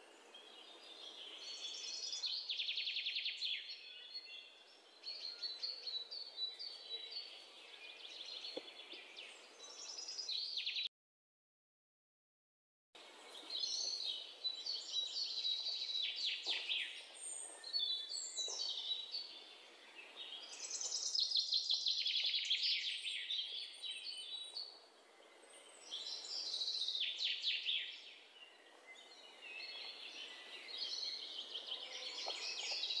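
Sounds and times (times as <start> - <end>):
small birds chirping and trilling: 0.0 - 10.9, 13.0 - 33.0.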